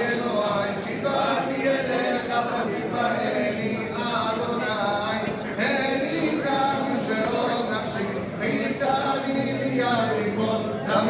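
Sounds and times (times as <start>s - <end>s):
male group singing chant-like song: 0.0s - 11.0s.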